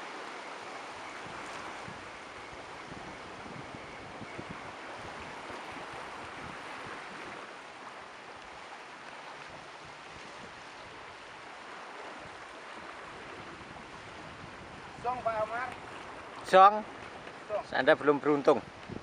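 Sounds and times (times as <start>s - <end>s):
ocean surf on rocks: 0.0s - 19.0s.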